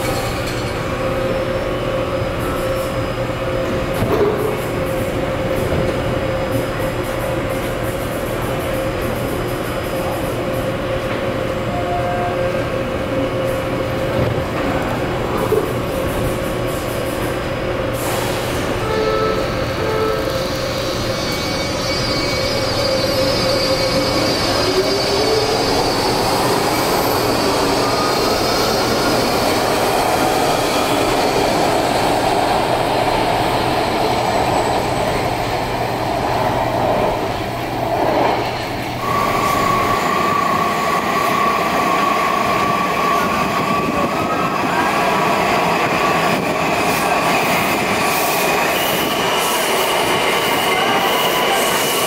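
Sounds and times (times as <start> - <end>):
subway train motors whining: 0.0 - 52.0
train moving along platform: 0.0 - 52.0.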